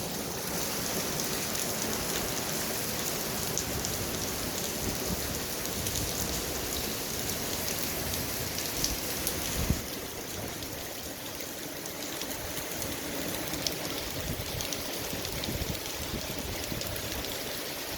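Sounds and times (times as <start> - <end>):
steady rain falling: 0.0 - 17.9.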